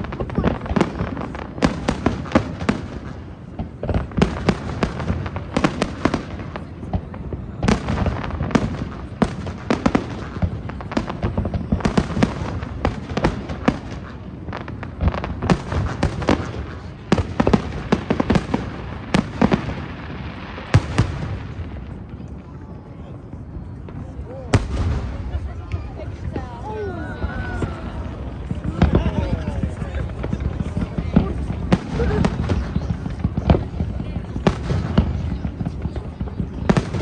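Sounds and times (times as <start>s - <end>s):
sharp fireworks bangs: 0.0s - 22.5s, 23.3s - 37.0s
fireworks bursts and crackling: 0.0s - 37.0s.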